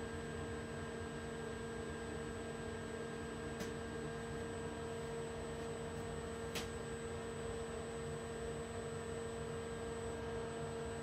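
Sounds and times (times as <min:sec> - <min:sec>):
electrical hum and whine: 0:00.0 - 0:11.0.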